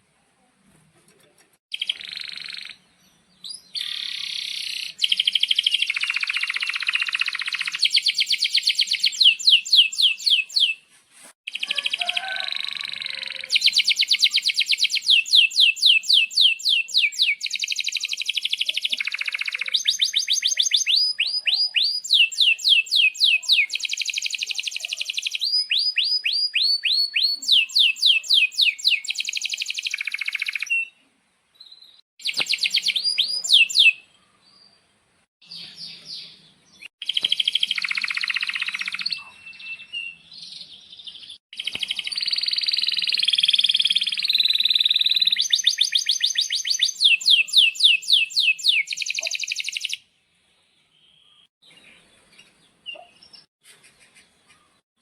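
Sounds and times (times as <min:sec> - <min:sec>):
canary singing trills: 0:01.7 - 0:10.8, 0:11.5 - 0:31.0, 0:31.6 - 0:34.7, 0:35.4 - 0:50.0.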